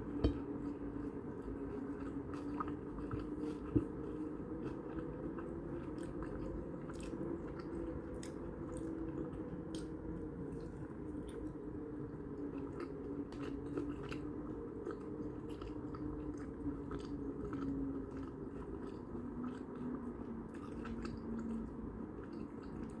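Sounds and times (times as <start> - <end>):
faint steady hum: 0.0 - 23.0
person chewing food: 0.0 - 23.0.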